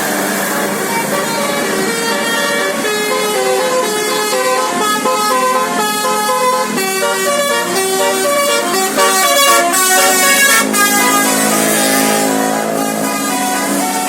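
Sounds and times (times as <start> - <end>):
bus musical horn melody: 0.0 - 14.0.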